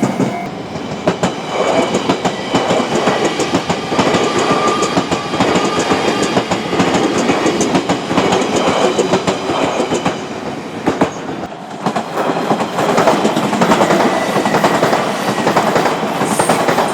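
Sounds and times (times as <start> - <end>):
train wheels clacking over rails: 0.0 - 16.9.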